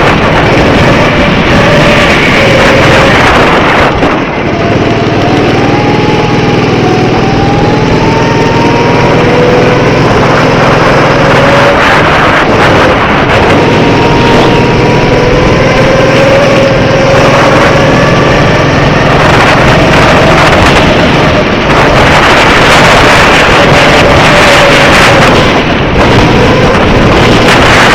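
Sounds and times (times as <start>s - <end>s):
go-kart engine running: 0.0s - 27.9s.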